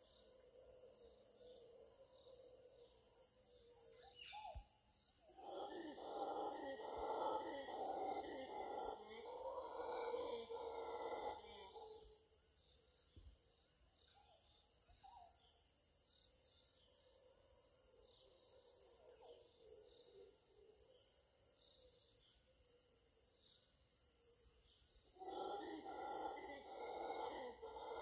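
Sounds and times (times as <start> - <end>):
faint short insect calls: 0.0 - 28.0
rapid pulsing insect trill: 0.0 - 28.0.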